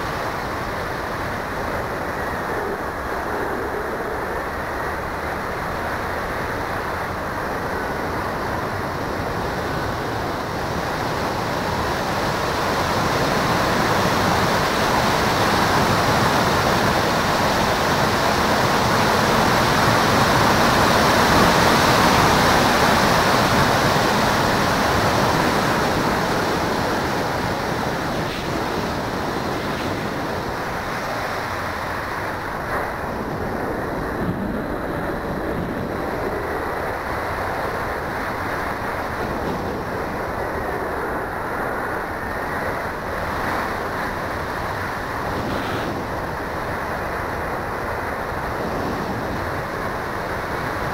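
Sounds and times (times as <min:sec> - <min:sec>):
wind roaring over camera: 0:00.0 - 0:50.9.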